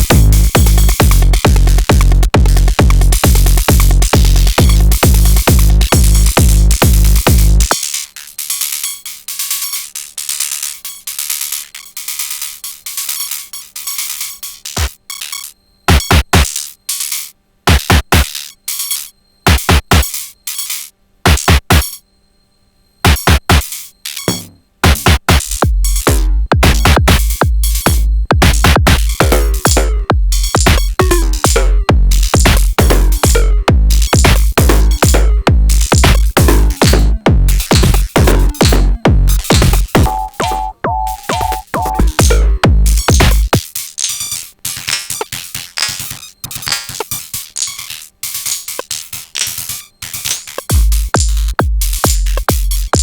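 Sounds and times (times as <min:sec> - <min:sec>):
drum machine techno pattern: 0:00.0 - 0:18.4, 0:19.5 - 0:20.7, 0:21.3 - 0:22.0, 0:23.1 - 0:53.0.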